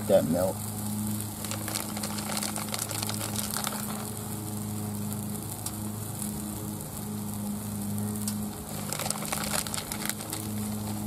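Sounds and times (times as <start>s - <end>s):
food sizzling on a griddle: 0.0s - 11.0s
steady low hum: 0.0s - 11.0s.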